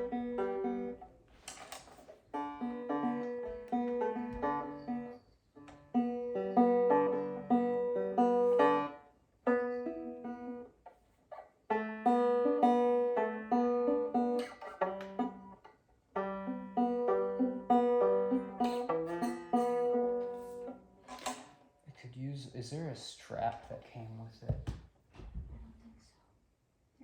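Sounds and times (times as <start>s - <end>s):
banjo picking: 0.0s - 24.1s.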